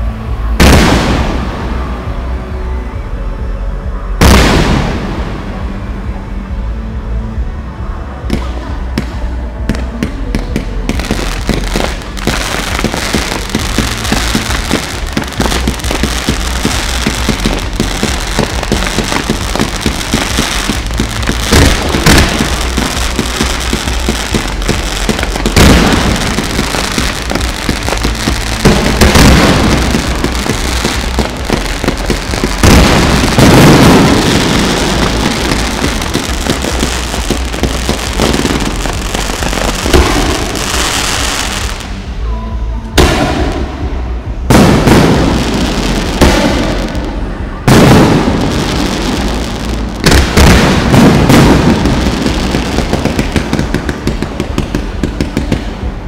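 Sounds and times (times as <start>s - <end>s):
fireworks crackling and popping: 0.0s - 2.7s, 4.1s - 7.0s, 7.9s - 42.2s, 43.0s - 56.0s
fireworks loud bangs: 0.0s - 3.1s, 4.2s - 6.2s, 8.2s - 42.2s, 43.0s - 56.0s
heavy fireworks booms: 0.0s - 3.1s, 4.2s - 7.0s, 8.2s - 42.2s, 43.0s - 56.0s.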